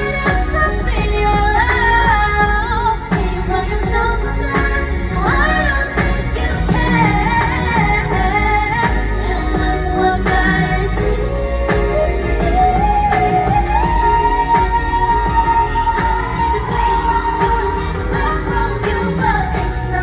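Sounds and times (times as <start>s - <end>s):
female group singing: 0.0s - 20.0s
pop backing track with bass: 0.0s - 20.0s.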